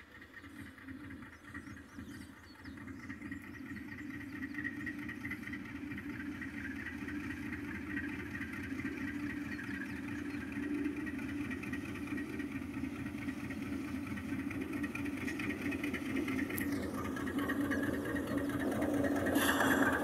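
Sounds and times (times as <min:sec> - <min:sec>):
locomotive engine droning: 0:00.0 - 0:20.0.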